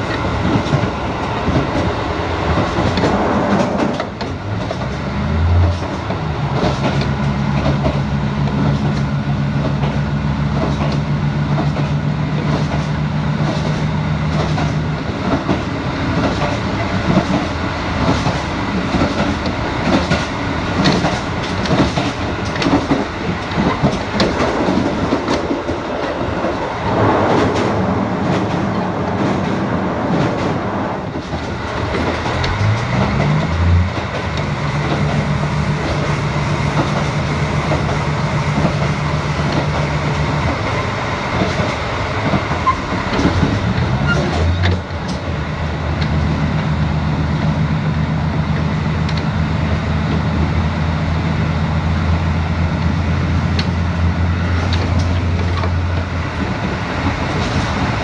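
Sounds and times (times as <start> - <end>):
train wheels clacking over rail joints: 0.0 - 46.3, 52.8 - 58.0.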